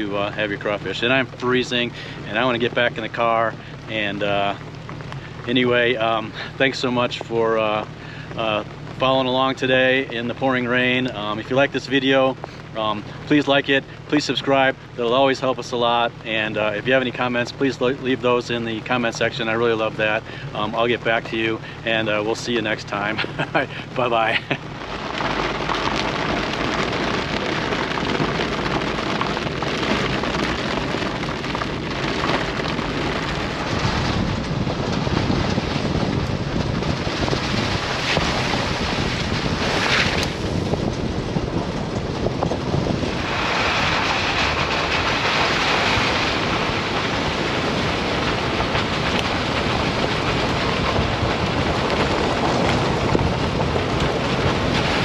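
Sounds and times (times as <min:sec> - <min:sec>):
heavy rain falling: 0:00.0 - 0:55.0
wind on microphone: 0:00.0 - 0:55.0.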